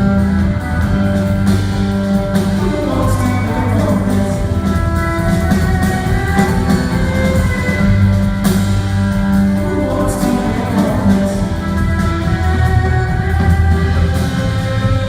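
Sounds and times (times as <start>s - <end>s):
drum hits: 0.0s - 15.0s
low bass line: 0.0s - 15.0s.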